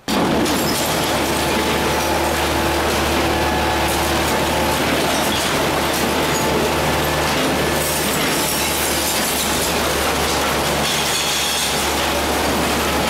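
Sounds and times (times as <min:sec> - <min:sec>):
garbage truck engine running: 0:00.0 - 0:13.0
rubbish sliding and clattering out: 0:00.0 - 0:13.0.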